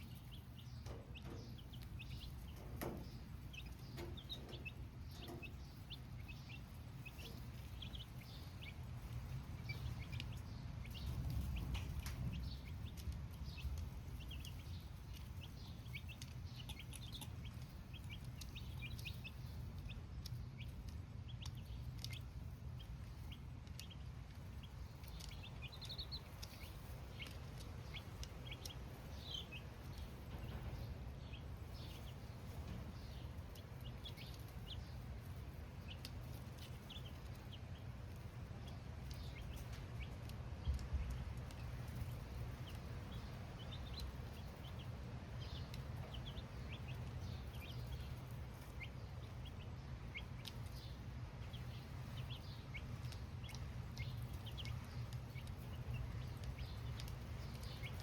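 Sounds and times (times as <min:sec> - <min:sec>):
baby chicks cheeping: 0:00.0 - 0:58.0
steady low rumble: 0:00.0 - 0:58.0.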